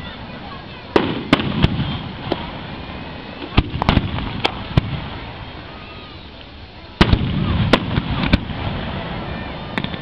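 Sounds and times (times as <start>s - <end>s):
fireworks bangs: 0.2s - 6.2s, 7.0s - 10.0s
firework burst with rumbling tail: 0.9s - 5.9s, 7.0s - 10.0s.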